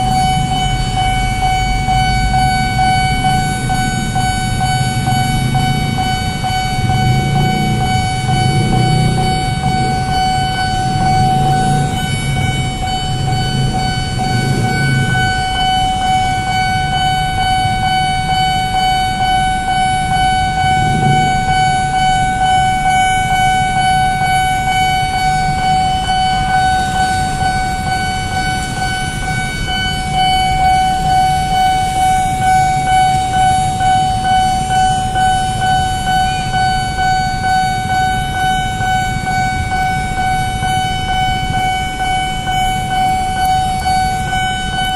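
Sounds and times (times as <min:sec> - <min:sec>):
level crossing alarm tone: 0:00.0 - 0:44.9
low engine rumble: 0:00.0 - 0:44.9.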